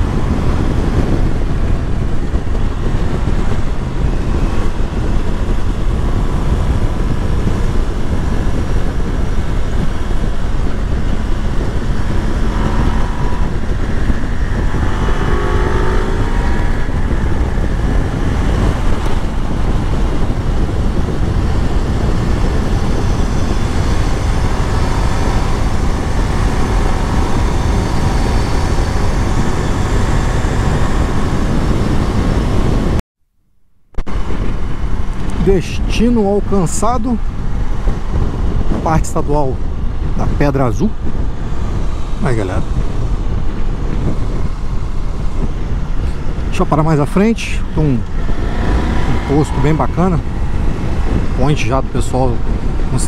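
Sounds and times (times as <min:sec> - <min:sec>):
motorcycle engine running: 0:00.0 - 0:33.0, 0:34.0 - 0:53.0
wind rush on microphone: 0:00.0 - 0:33.0, 0:34.0 - 0:53.0.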